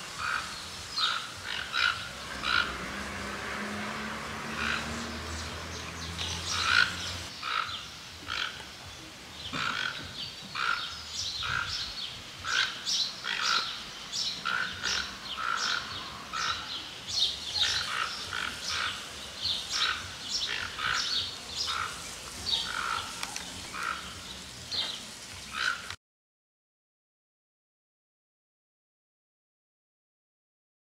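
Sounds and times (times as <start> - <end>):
toucan rasping call: 0.2 - 8.7, 9.6 - 26.0.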